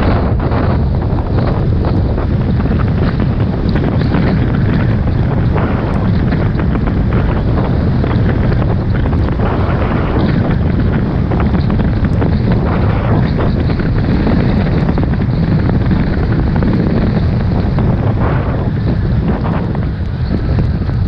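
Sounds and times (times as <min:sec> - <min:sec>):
steady low rumble: 0:00.0 - 0:21.0
wind buffeting microphone: 0:00.0 - 0:21.0.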